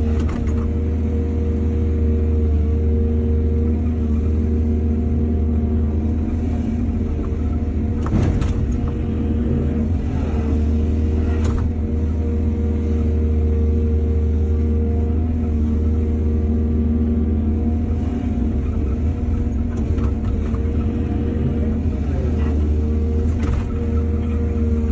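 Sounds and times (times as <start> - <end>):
excavator engine running: 0.0 - 24.9.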